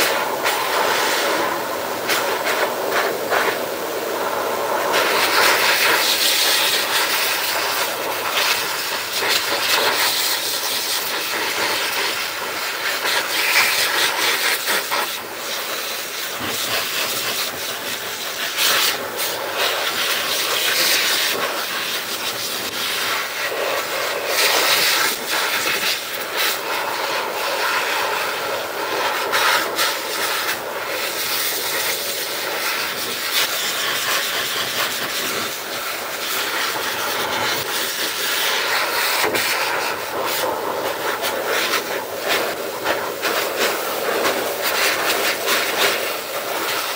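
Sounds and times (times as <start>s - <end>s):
blower dryer rushing hiss: 0.0s - 46.9s.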